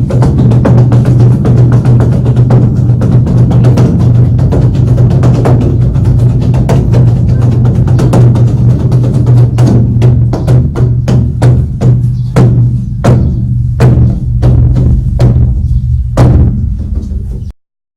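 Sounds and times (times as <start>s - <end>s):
drum being beaten: 0.0s - 17.5s
steady low boom: 0.0s - 17.5s.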